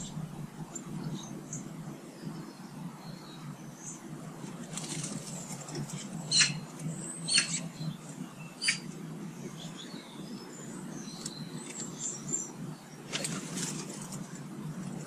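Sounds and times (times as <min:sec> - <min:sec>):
birds chirping: 0:00.0 - 0:15.0
low background rumble: 0:00.0 - 0:15.0.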